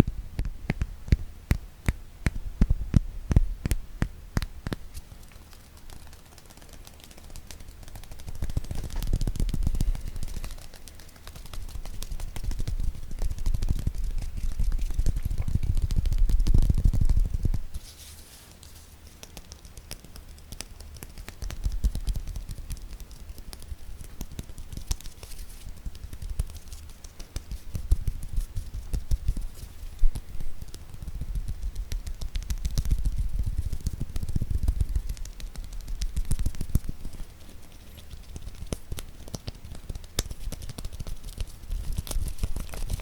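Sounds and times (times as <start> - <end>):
rapid hand tapping: 0.0 - 17.7, 19.1 - 43.0.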